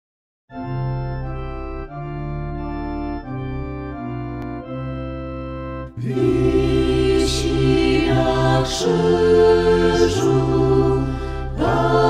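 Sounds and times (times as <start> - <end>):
organ playing held chords: 0.5 - 12.0.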